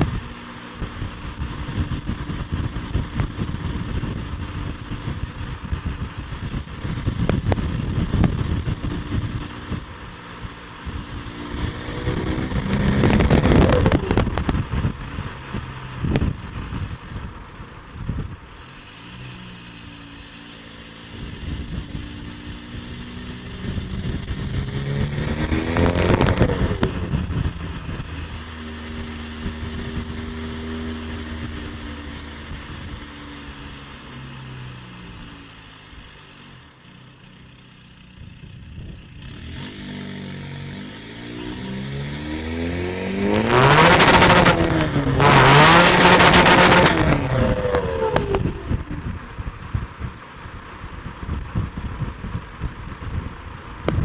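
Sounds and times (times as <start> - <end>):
turbo rushing noise: 0.0 - 36.0, 39.6 - 53.2
diesel engine revving: 0.0 - 54.0.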